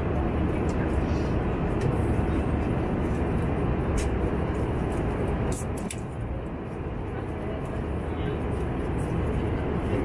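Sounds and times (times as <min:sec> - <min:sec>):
airplane cabin noise: 0:00.0 - 0:10.0.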